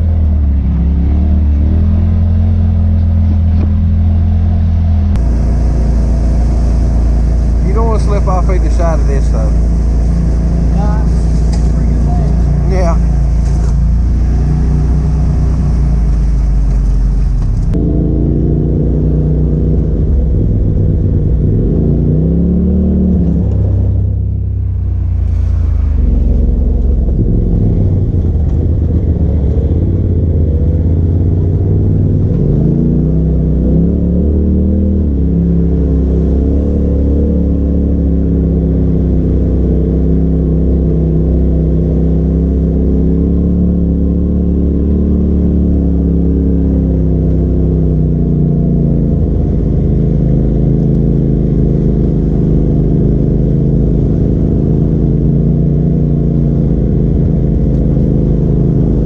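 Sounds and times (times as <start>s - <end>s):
utv engine revving: 0.0s - 59.0s.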